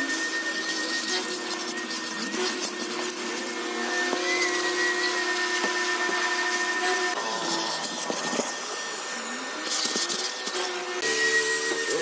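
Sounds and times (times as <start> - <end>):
shop vacuum running: 0.0 - 12.0.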